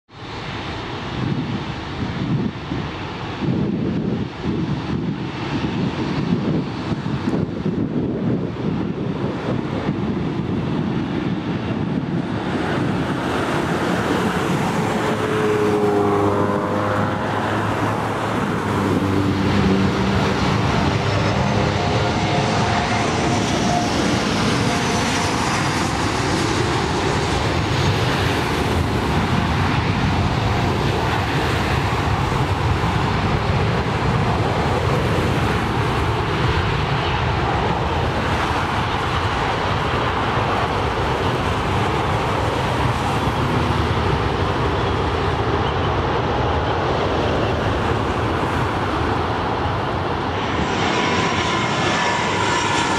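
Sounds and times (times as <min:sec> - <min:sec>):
jet engines running: 0:00.1 - 0:52.9.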